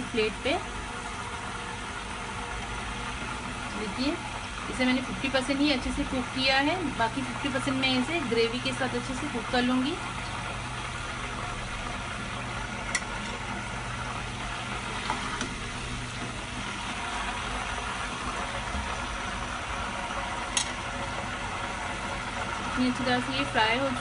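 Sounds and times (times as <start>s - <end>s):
oil sizzling in a wok: 0.0s - 24.0s
steady low hum: 0.0s - 24.0s.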